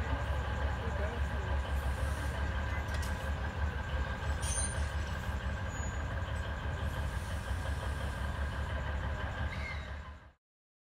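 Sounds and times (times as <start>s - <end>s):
locomotive engine idling: 0.0s - 10.4s.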